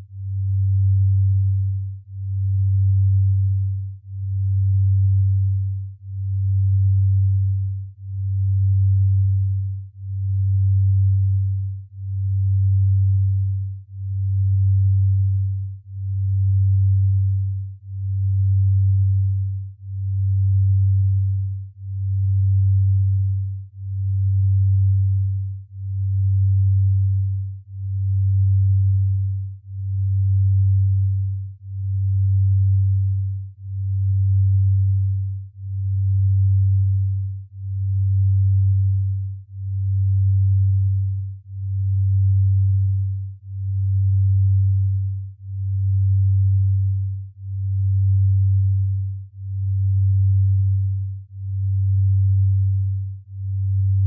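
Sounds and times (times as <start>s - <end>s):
low pulsing sine tone: 0.0s - 54.0s.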